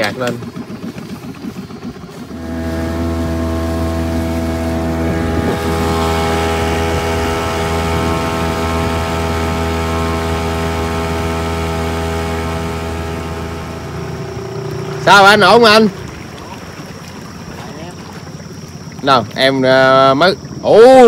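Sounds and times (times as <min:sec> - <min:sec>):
small boat motor droning: 0:00.0 - 0:21.0.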